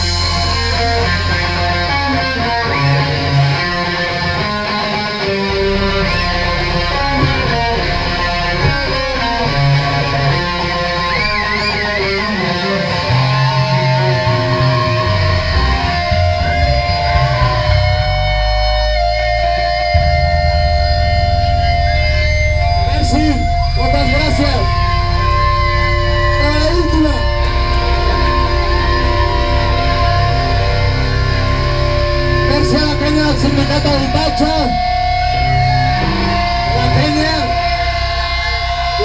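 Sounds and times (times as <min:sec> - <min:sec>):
bent wavering guitar notes: 0:00.0 - 0:39.0
punk band playing live: 0:00.0 - 0:39.0.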